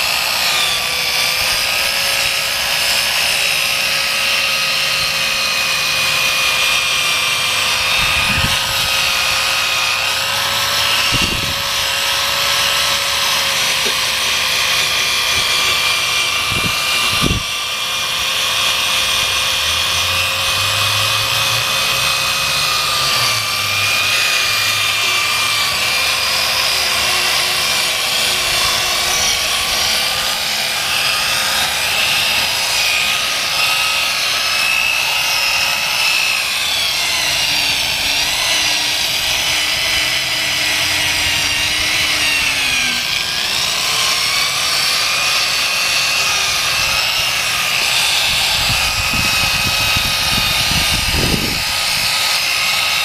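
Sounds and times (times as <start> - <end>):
electric drill motor whine: 0.0 - 53.0.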